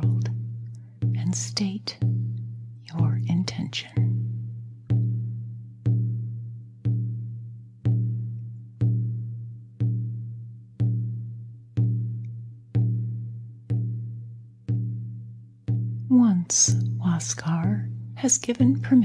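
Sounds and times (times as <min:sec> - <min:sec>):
slow steady drumbeat: 0:00.0 - 0:19.0.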